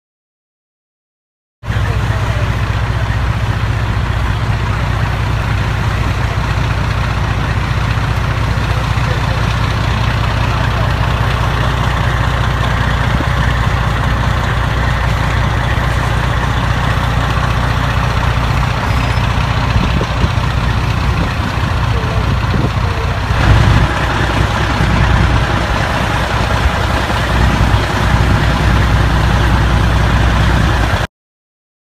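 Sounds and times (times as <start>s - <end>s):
diesel engine idling: 1.6s - 31.1s.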